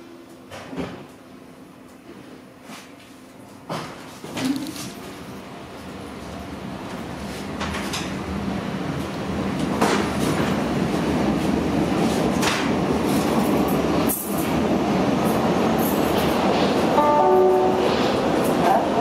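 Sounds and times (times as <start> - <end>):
train wheels rumbling on rails: 1.9 - 19.0.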